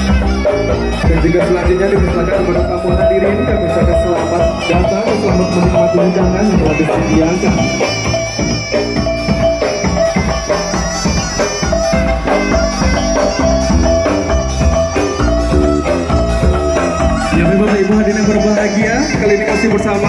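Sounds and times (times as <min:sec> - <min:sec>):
steady percussive beat: 0:00.0 - 0:20.0
wind instrument wavering melody: 0:00.0 - 0:20.0.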